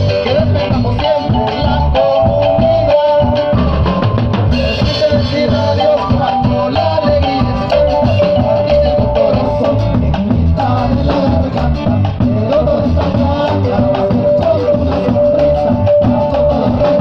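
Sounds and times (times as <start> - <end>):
man singing into microphone: 0.0 - 3.9, 4.6 - 17.0
drum kit dance beat: 0.0 - 17.0
guitar: 0.0 - 17.0.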